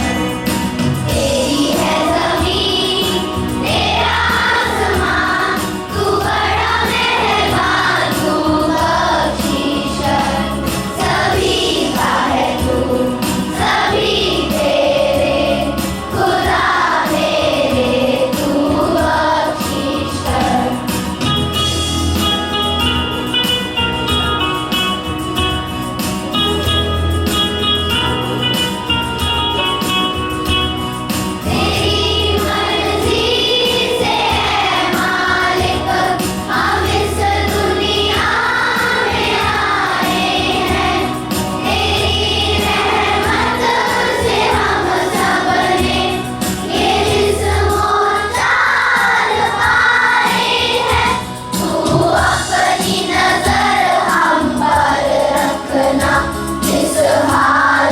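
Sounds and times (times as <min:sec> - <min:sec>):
group singing in unison: 0:00.0 - 0:21.4, 0:31.5 - 0:57.9.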